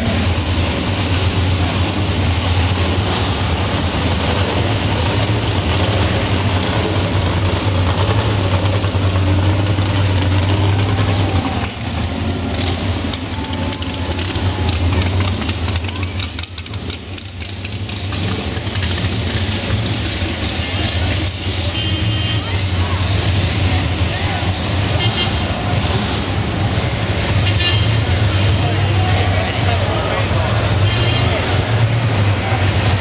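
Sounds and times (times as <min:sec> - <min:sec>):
car engines idling and rumbling: 0:00.0 - 0:33.0.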